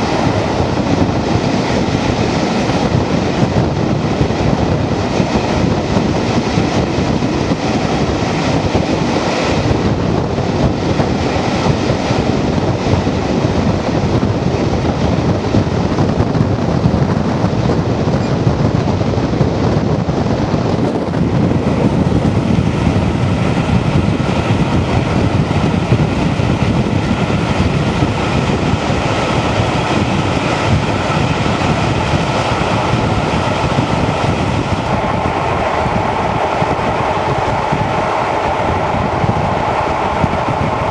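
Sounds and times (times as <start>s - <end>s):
train wheel and rail noise: 0.0s - 40.9s.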